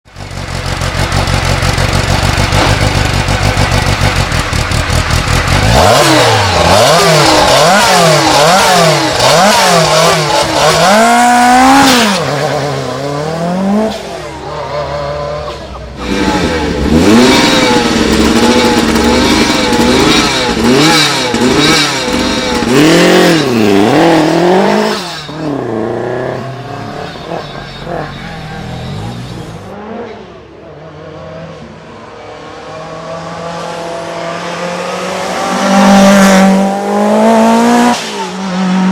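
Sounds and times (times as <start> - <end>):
rally car engine revving: 0.1 - 38.9.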